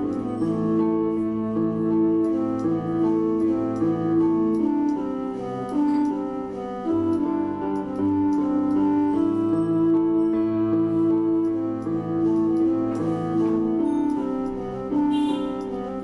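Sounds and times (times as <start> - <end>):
slow instrumental melody: 0.0 - 16.0.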